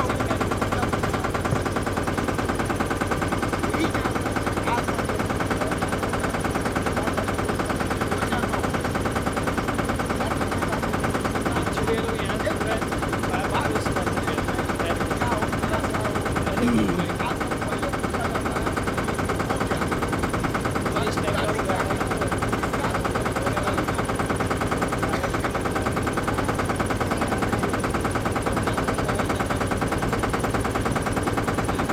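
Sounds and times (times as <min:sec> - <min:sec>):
boat engine chugging: 0:00.0 - 0:31.9.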